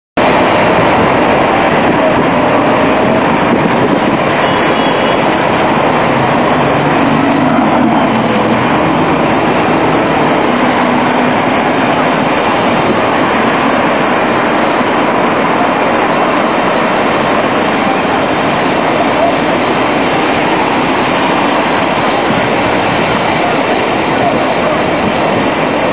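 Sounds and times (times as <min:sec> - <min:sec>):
city street traffic noise: 0:00.2 - 0:25.9
tram approaching on track: 0:00.2 - 0:25.9.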